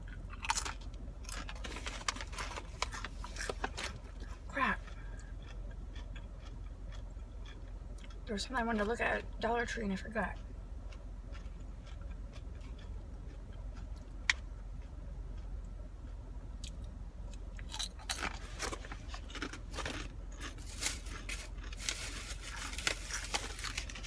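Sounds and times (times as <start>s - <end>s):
chewing crunchy chips: 0.0s - 9.4s, 10.3s - 24.0s
steady low hum: 0.0s - 24.0s.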